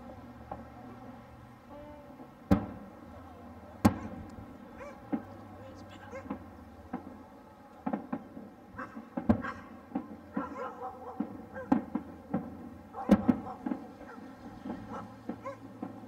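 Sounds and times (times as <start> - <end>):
distant fireworks bangs and pops: 0.0 - 1.2, 2.2 - 16.0.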